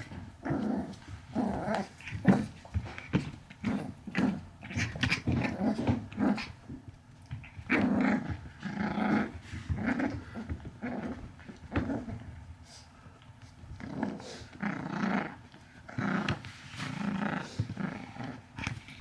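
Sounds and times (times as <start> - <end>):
small dog growling: 0.1 - 3.0, 3.6 - 6.7, 7.4 - 12.2, 13.7 - 19.0.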